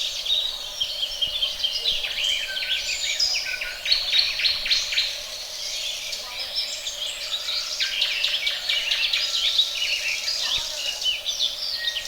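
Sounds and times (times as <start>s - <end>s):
chorus of small birds chirping: 0.0s - 12.0s.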